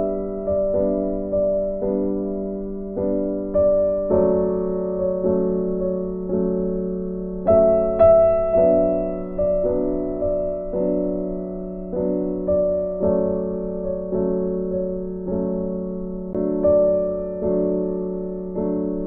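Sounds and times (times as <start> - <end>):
slow gentle piano chords: 0.0 - 19.0.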